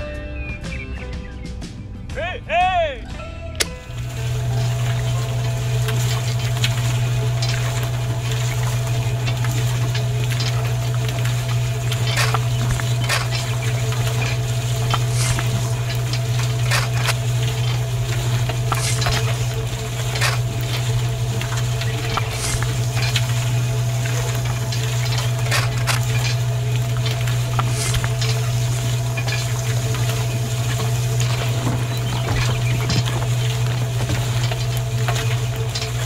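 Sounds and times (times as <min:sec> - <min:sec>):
small electric motor running: 0:03.8 - 0:36.0
sand hissing through mesh: 0:04.0 - 0:36.0
grit clicking on metal trays: 0:04.1 - 0:36.0.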